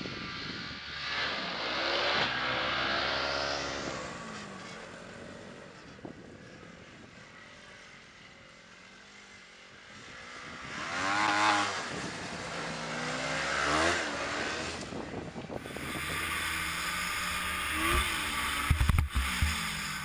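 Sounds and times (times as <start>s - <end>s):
snowmobile engine passing: 0.0s - 20.0s.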